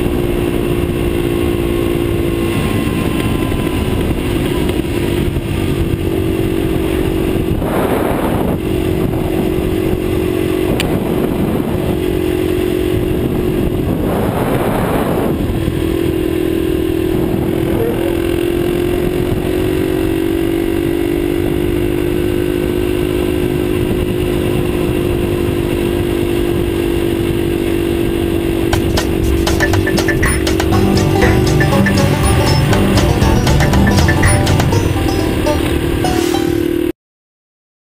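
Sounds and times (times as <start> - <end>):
road noise: 0.0 - 24.8, 26.8 - 36.9
motorcycle engine cruising: 0.0 - 36.9.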